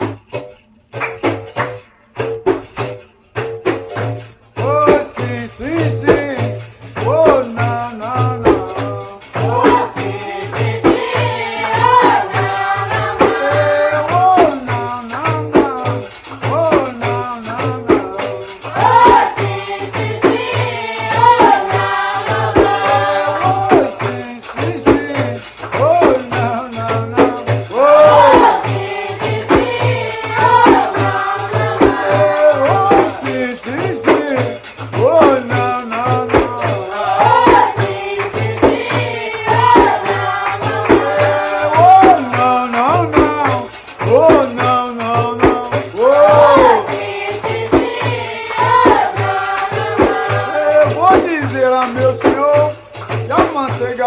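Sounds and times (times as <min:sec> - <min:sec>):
shakers and percussion: 0:00.0 - 0:54.0
voices singing folk music: 0:04.5 - 0:54.0.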